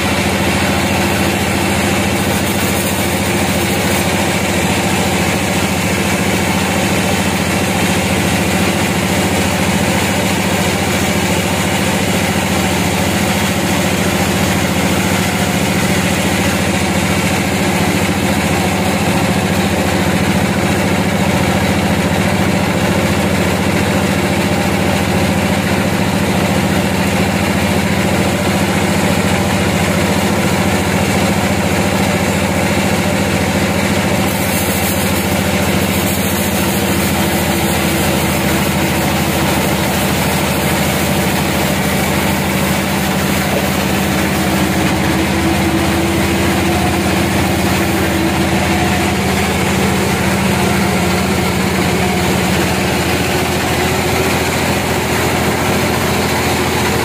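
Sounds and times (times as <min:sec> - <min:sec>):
band sawmill sawing log: 0:00.0 - 0:57.0.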